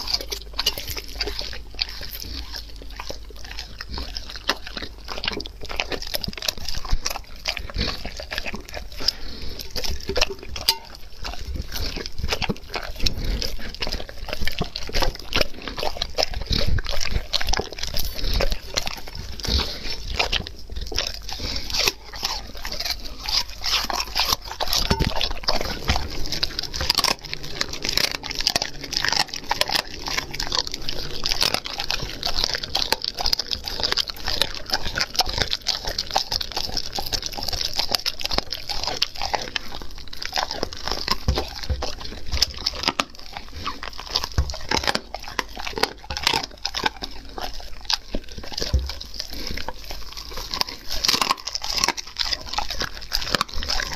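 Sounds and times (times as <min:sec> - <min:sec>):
dog chewing and crunching meat: 0:00.0 - 0:53.9.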